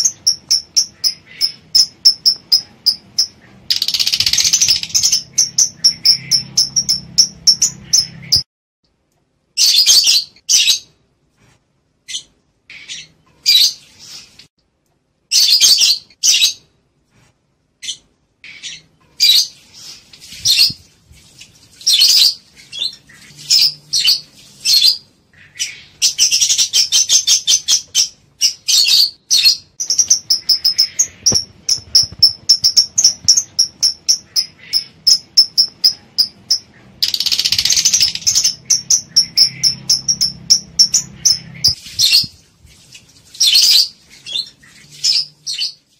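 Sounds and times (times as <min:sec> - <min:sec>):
lovebirds chirping: 0:00.0 - 0:08.5, 0:12.0 - 0:14.5, 0:17.8 - 0:20.9, 0:21.8 - 0:42.4, 0:43.3 - 0:45.9.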